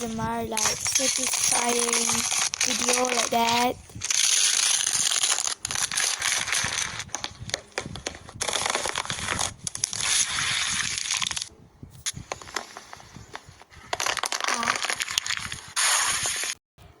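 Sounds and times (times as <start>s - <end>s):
crunching and crackling: 0.0s - 16.6s.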